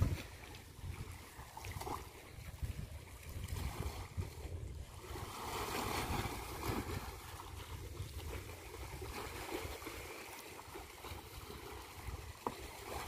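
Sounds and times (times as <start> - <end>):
waves washing against rocks: 0.0 - 2.4, 3.2 - 13.0
wind rumbling on microphone: 0.0 - 13.0.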